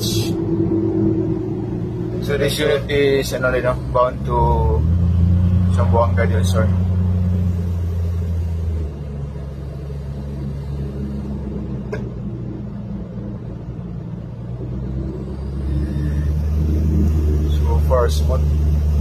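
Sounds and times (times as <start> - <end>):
road noise: 0.0 - 19.0
van engine hum: 0.0 - 19.0.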